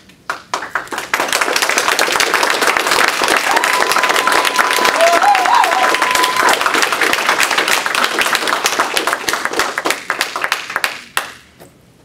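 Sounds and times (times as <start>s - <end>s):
audience applauding: 0.3s - 11.4s.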